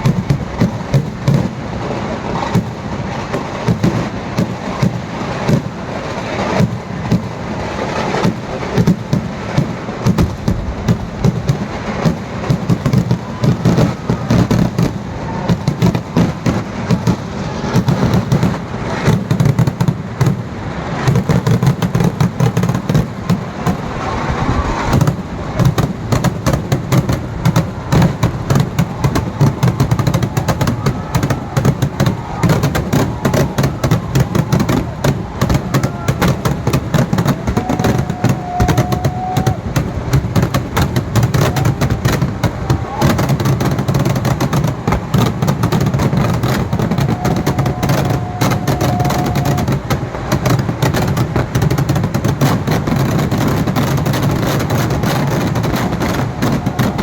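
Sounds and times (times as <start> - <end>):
firecracker bangs: 0.0 - 57.0
continuous low rumble: 5.0 - 52.9.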